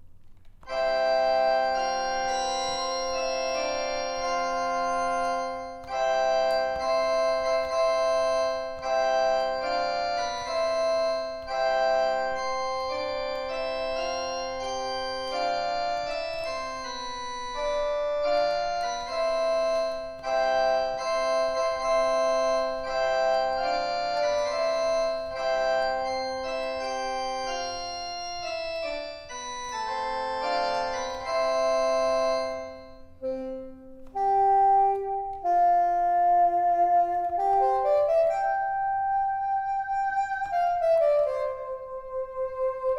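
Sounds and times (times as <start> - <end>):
keyboard organ melody: 0.6 - 42.9.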